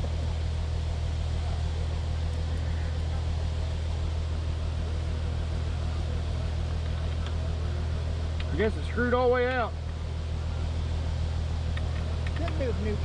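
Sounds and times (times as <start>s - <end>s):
heavy machine engine idling: 0.0s - 13.0s.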